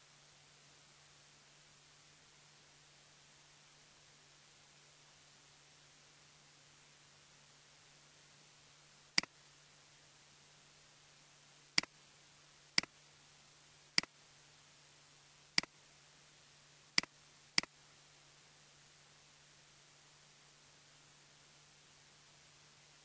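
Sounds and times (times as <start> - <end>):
faint low hum and hiss: 0.0 - 23.0.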